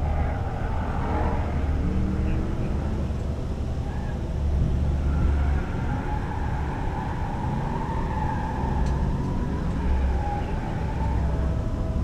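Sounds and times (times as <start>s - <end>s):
car engine noise: 0.0s - 12.0s.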